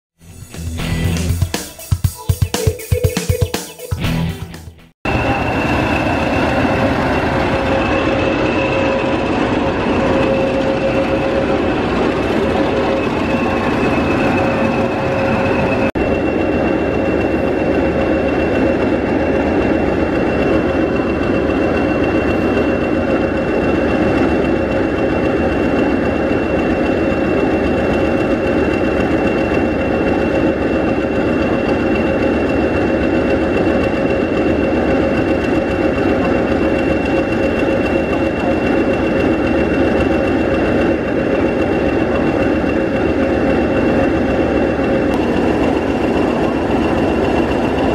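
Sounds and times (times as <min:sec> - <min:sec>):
diesel locomotive engine idling: 0:05.1 - 0:47.9.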